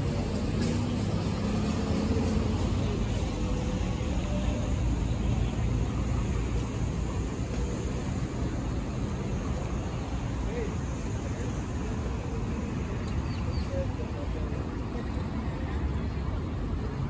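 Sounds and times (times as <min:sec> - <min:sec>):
faint engine drone: 0:00.0 - 0:17.0
street traffic rumble: 0:00.0 - 0:17.0.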